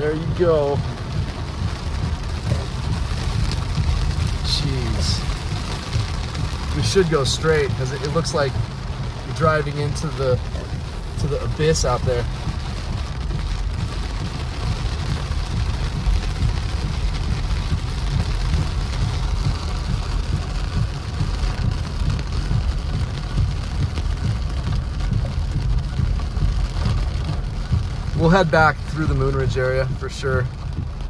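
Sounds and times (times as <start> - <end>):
car rumbling on wet road: 0.0 - 31.0
heavy rain on car roof: 0.0 - 31.0.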